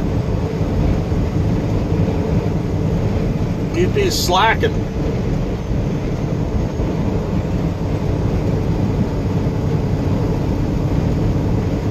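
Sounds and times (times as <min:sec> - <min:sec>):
vehicle road and engine rumble: 0:00.0 - 0:11.9.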